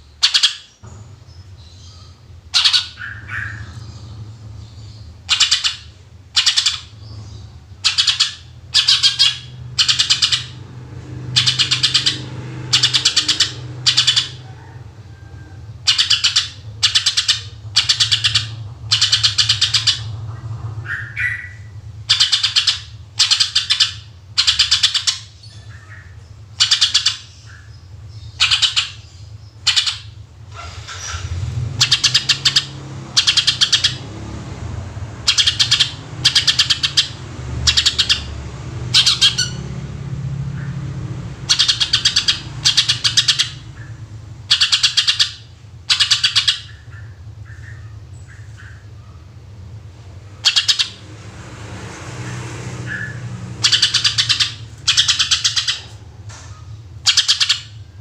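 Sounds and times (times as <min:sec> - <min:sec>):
bird singing rapid stuttering phrases: 0:00.0 - 0:58.0.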